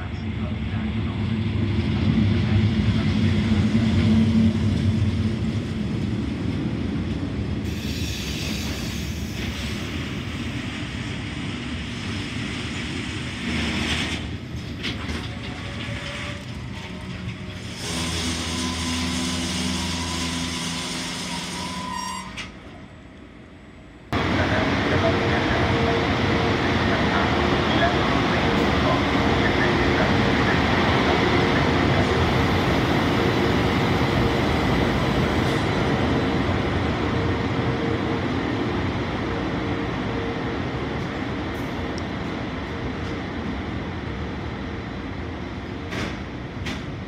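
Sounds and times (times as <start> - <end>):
electric locomotive humming: 0.0 - 46.9.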